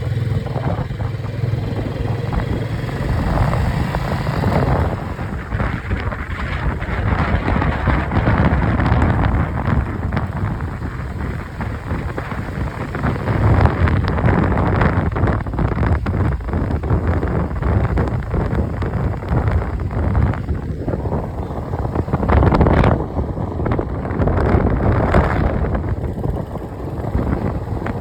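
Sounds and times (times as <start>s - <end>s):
motorcycle engine rumble: 0.0s - 28.0s
wind buffeting microphone: 0.0s - 28.0s.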